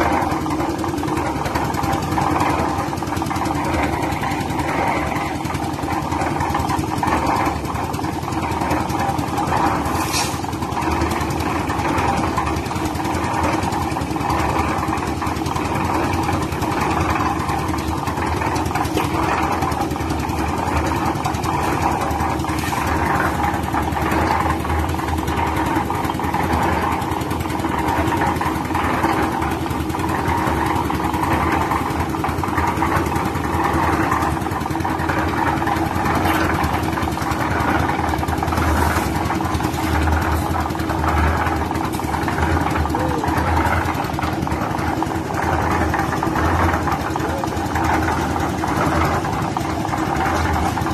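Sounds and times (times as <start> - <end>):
concrete mixer running: 0.0 - 50.9.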